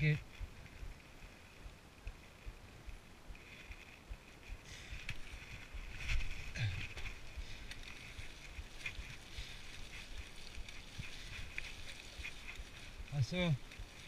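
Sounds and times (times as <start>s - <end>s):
bike tyres rolling over dry leaves: 0.0s - 14.0s.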